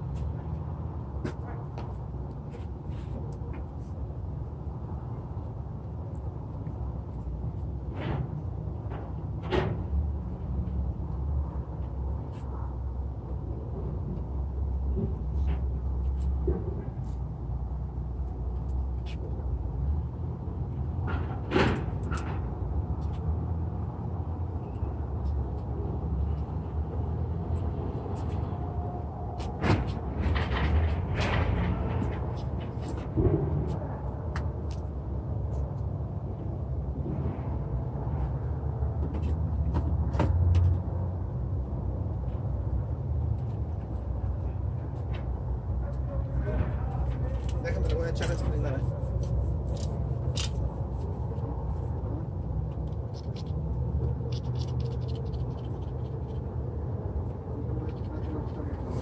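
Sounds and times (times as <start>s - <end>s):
low vehicle rumble: 0.0s - 59.0s.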